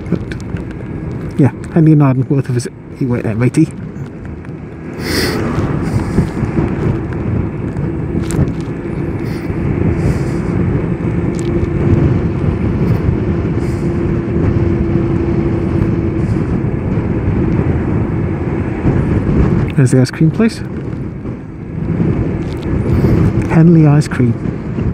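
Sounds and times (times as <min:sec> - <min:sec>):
wind and road noise: 0:00.0 - 0:24.9.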